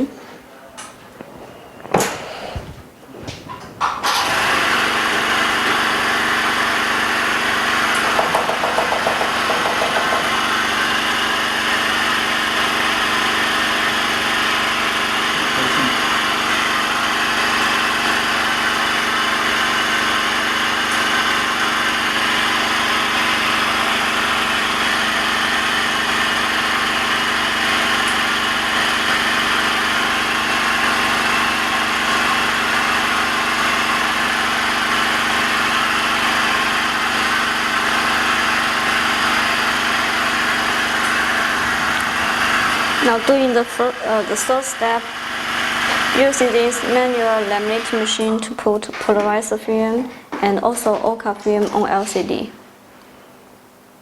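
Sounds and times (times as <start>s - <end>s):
machine motor humming: 0.0s - 50.5s.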